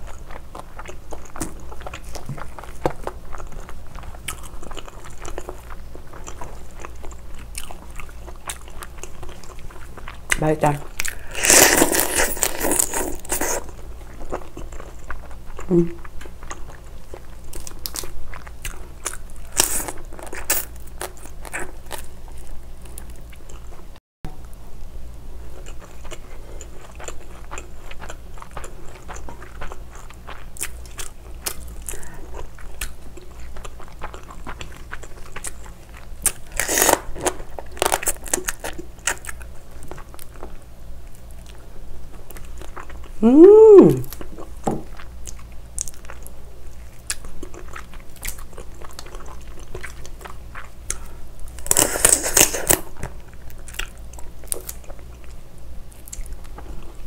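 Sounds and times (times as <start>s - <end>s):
crunching and chewing: 0.0s - 24.6s, 25.4s - 43.2s, 44.0s - 57.0s.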